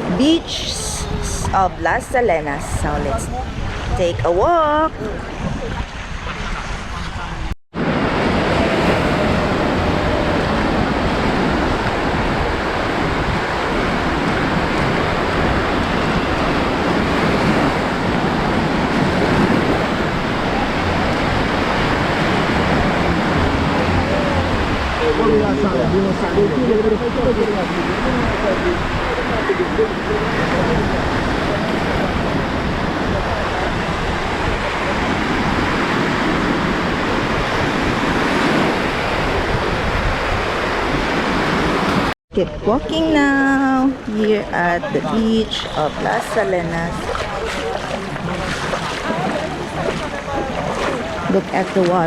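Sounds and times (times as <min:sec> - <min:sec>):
wind buffeting microphone: 0:00.0 - 0:52.0
surf washing onto beach: 0:04.8 - 0:42.2, 0:44.8 - 0:52.0.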